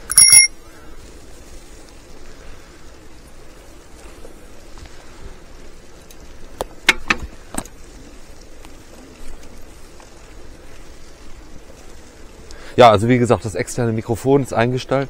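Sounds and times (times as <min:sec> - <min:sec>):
bicycle tyres rolling: 0:00.0 - 0:15.0.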